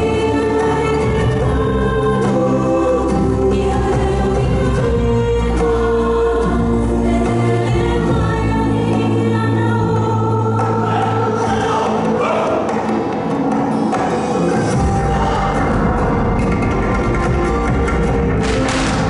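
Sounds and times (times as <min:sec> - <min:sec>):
choir singing long held notes: 0:00.0 - 0:12.8, 0:13.7 - 0:16.9
sustained musical backing: 0:00.0 - 0:19.0.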